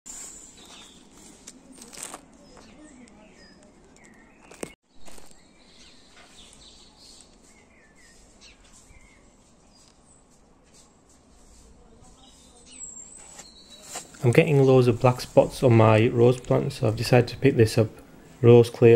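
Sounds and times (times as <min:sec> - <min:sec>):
outdoor background noise: 0:00.1 - 0:18.9
small birds chirping: 0:00.1 - 0:18.9.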